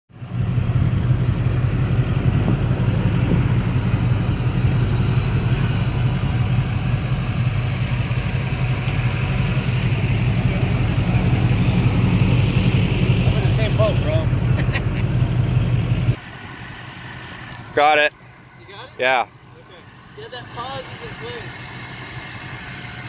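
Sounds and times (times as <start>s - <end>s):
truck engine running: 0.1s - 23.0s.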